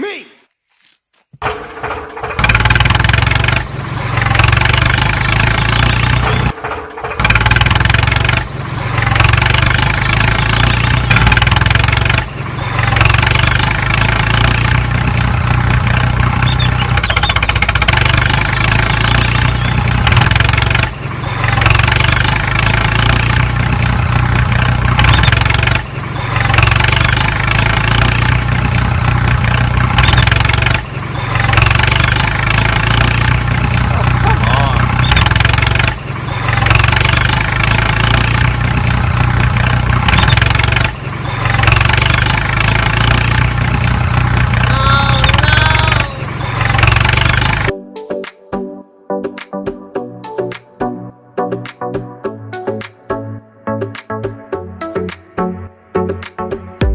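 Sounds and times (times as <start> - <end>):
vehicle engine revving hard: 1.4 - 47.7.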